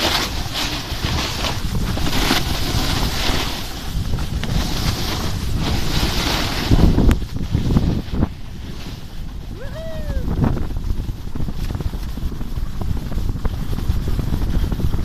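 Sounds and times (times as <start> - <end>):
snowboard edges scraping snow: 0.0 - 15.0
wind buffeting microphone: 0.0 - 15.0.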